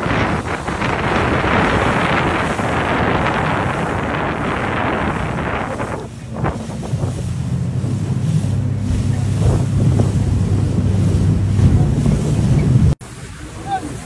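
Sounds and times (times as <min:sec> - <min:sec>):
boat engine droning: 0:00.0 - 0:14.0
water rushing past hull: 0:00.0 - 0:14.0
wind buffeting microphone: 0:00.0 - 0:14.0.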